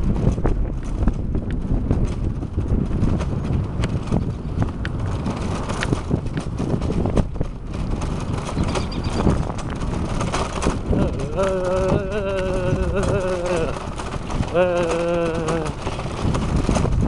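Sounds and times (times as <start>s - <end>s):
bicycle tyres rumbling on pavement: 0.0s - 17.0s
rattles and knocks from bumps: 0.0s - 17.0s.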